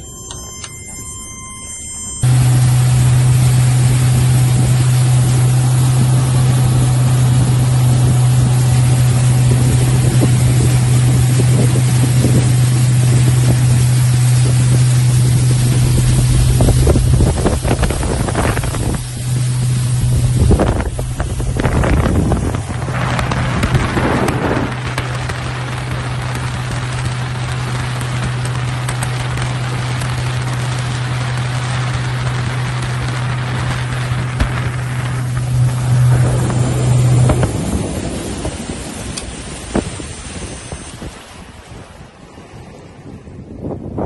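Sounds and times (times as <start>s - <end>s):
motorboat engine drone: 0.0s - 44.0s
wind buffeting microphone: 2.3s - 44.0s
rushing water: 3.3s - 43.6s.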